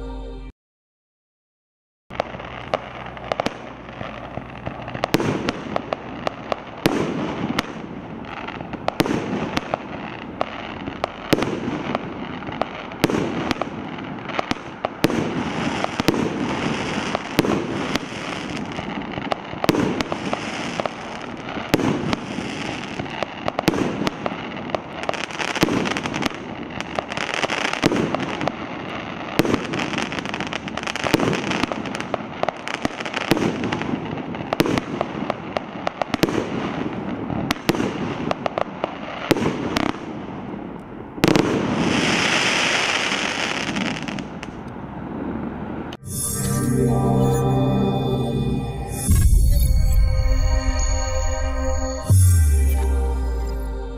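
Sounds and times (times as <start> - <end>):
firework shots: 2.1 - 46.0
firework crackling: 2.1 - 53.8.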